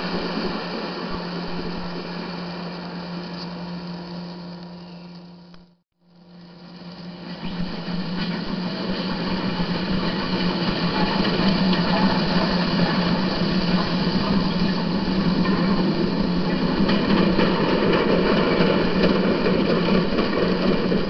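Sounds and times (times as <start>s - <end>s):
model locomotive engine hum: 0.0s - 21.0s.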